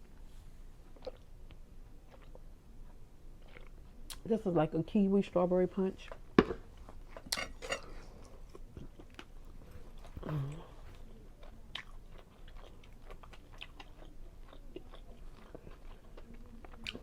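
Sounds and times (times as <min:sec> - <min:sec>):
low hum through closed mouth: 0:00.0 - 0:04.5, 0:06.0 - 0:17.0
chewing and wet mouth sounds: 0:00.8 - 0:04.3, 0:06.0 - 0:17.0.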